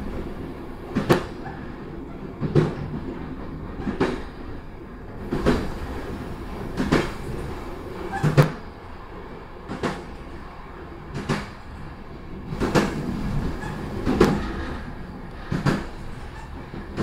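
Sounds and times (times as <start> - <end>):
train wheels clacking: 0.0 - 8.8, 9.6 - 17.0
train rumbling on track: 0.0 - 17.0.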